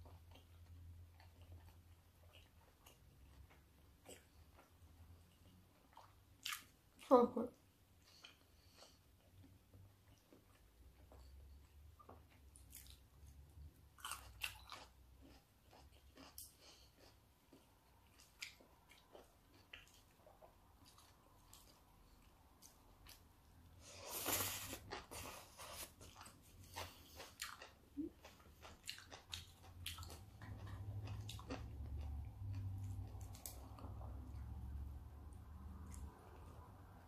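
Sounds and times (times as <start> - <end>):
person chewing wetly: 0.0 - 6.7, 8.0 - 23.6, 24.2 - 37.0.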